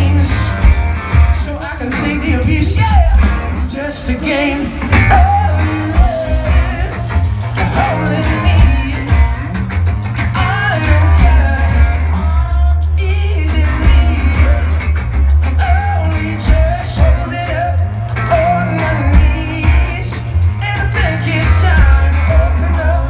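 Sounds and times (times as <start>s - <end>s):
man singing: 0.0s - 9.6s, 10.3s - 23.0s
live rock band: 0.0s - 23.0s.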